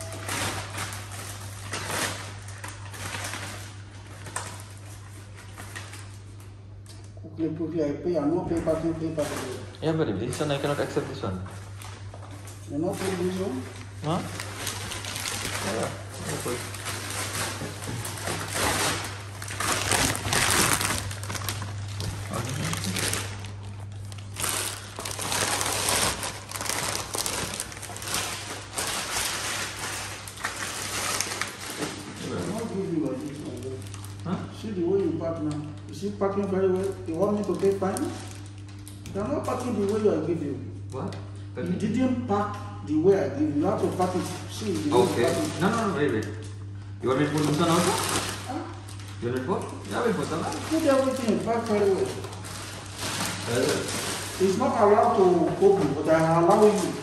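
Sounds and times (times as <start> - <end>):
plastic bags rustling: 0.0 - 6.4, 8.6 - 40.3, 43.5 - 57.0
steady low hum: 0.0 - 57.0.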